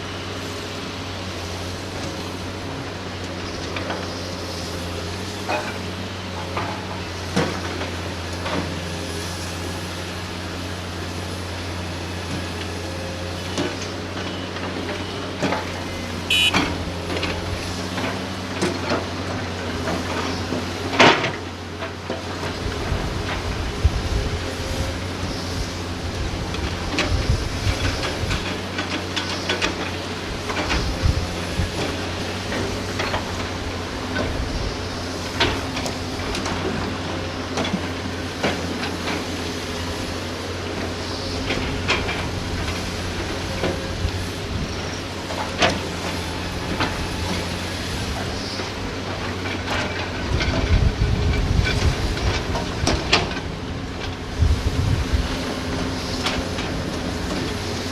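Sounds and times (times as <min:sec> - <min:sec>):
diesel excavator engine running: 0:00.0 - 0:57.9.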